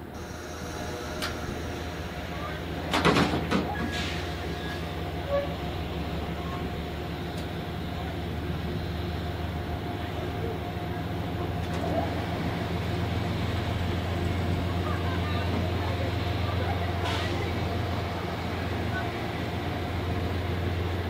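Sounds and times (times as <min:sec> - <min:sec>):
train engine low hum: 0:00.0 - 0:21.0.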